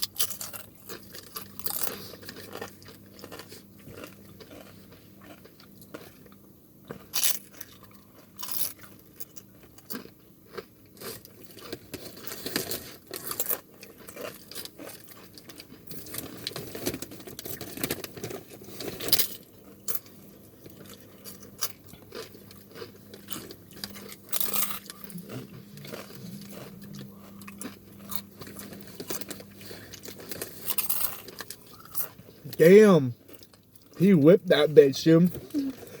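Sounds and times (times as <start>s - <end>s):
chewing crunchy chips: 0.0s - 36.0s.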